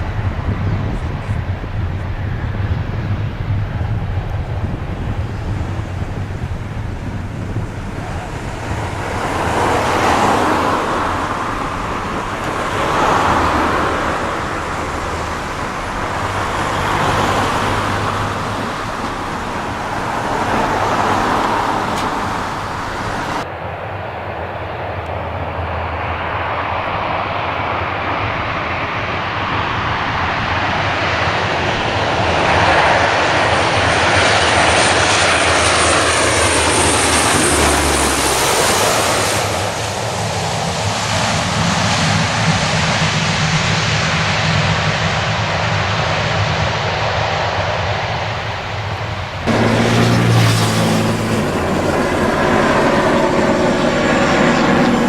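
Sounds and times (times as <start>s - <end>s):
distant engine noise: 0.0s - 55.0s.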